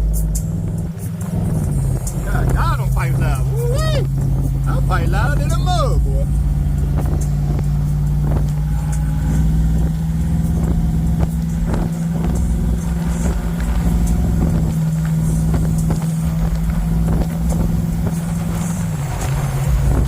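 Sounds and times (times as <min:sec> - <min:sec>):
car engine loud exhaust drone: 0:00.0 - 0:20.0.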